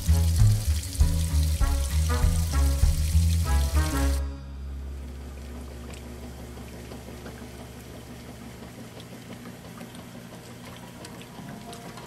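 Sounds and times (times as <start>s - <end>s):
water sloshing in washing machine: 0.0s - 4.2s, 5.3s - 12.0s
low machine hum: 0.0s - 12.0s.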